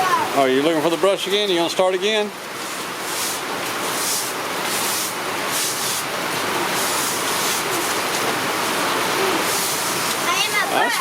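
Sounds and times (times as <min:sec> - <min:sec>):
heavy rain hissing: 0:00.0 - 0:11.0
water running and splashing: 0:00.0 - 0:11.0.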